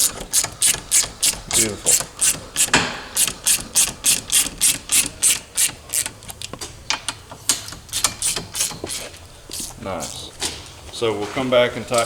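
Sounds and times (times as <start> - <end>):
hand ratchet clicking: 0.0 - 10.2.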